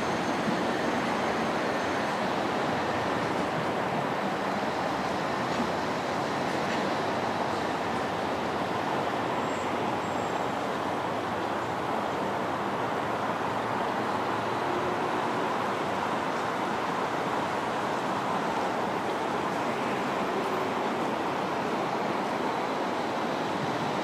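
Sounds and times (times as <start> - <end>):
traffic hum and hiss: 0.0 - 24.0.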